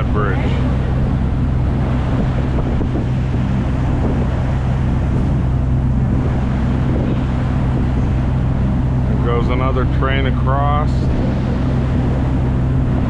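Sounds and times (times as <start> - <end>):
boat engine drone: 0.0 - 13.0
water rushing: 0.0 - 13.0
wind: 0.0 - 13.0.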